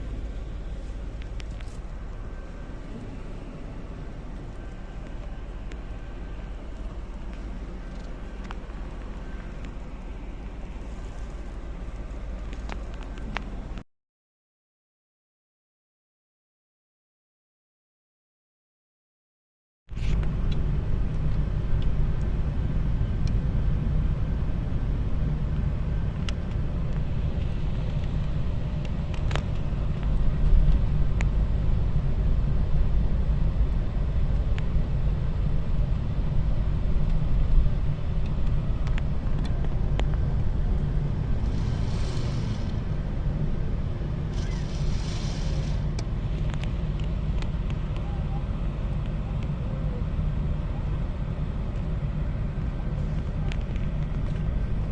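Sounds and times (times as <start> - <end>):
car engine and road noise: 0.0 - 13.8, 19.9 - 54.9.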